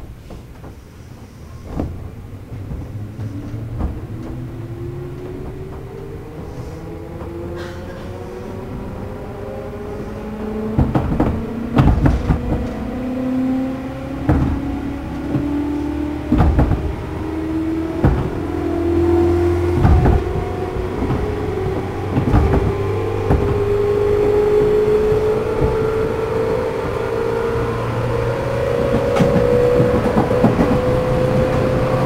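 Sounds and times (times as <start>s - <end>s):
wheels clacking over rail joints: 0.0s - 32.0s
electric train motor whining: 0.6s - 32.0s.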